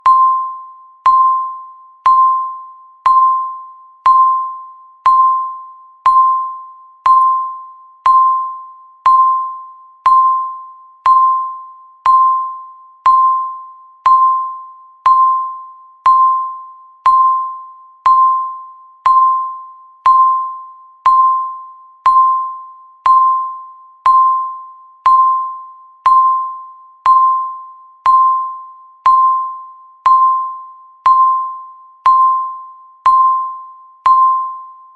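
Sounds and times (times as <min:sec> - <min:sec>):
countdown timer ding: 0:00.0 - 0:34.7.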